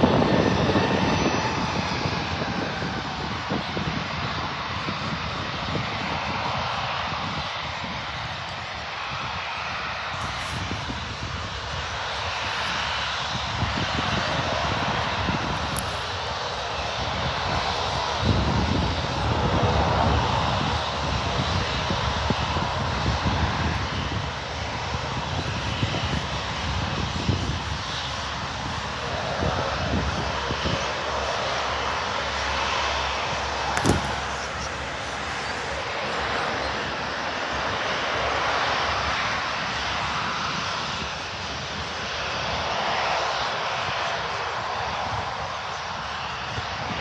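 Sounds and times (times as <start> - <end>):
jet engines running: 0.0 - 47.0
wind buffeting microphone: 0.0 - 47.0.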